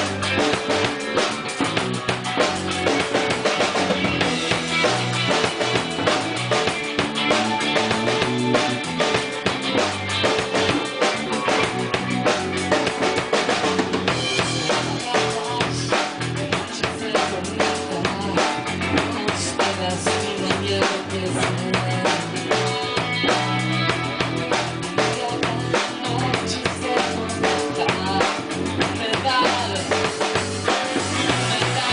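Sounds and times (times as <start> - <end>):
band playing instrumental: 0.0 - 31.9.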